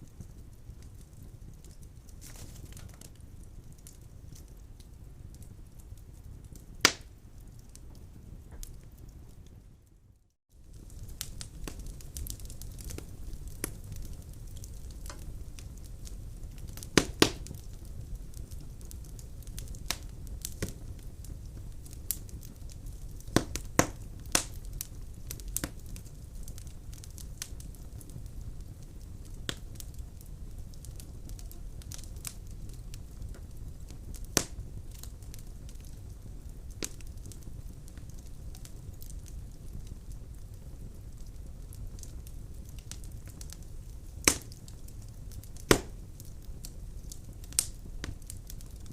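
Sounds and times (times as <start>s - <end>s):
fire rumbling: 0.0s - 48.9s
logs crackling and popping: 0.0s - 48.9s.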